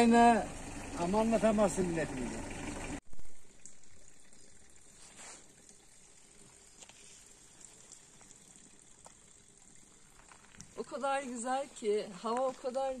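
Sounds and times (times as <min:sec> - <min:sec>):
soft outdoor hiss: 0:00.0 - 0:13.0.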